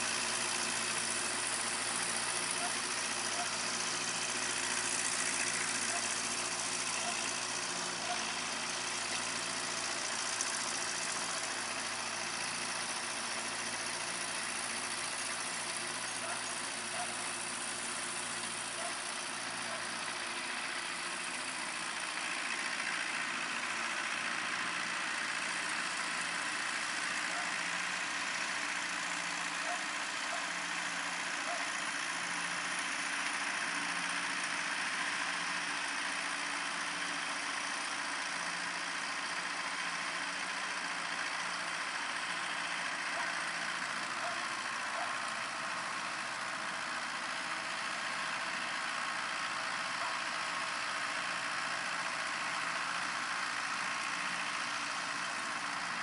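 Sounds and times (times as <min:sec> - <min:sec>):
diesel tractor engine throbbing: 0:00.0 - 0:56.0.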